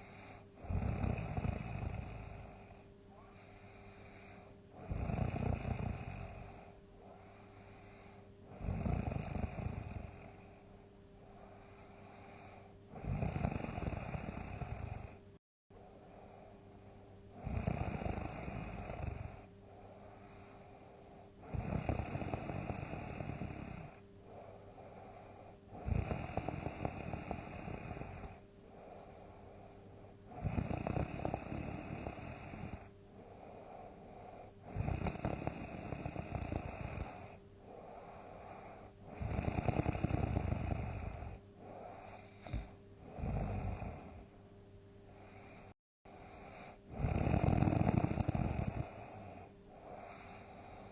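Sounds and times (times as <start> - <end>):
person snoring: 0.0 - 10.6, 11.3 - 15.2, 17.3 - 44.3, 45.1 - 50.9
quiet breathing: 0.0 - 50.9.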